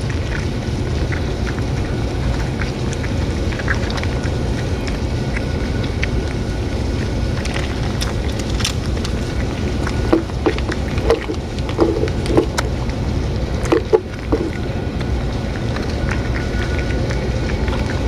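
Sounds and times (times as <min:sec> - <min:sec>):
cats chewing wet food: 0:00.0 - 0:18.0
low background rumble: 0:00.0 - 0:18.0.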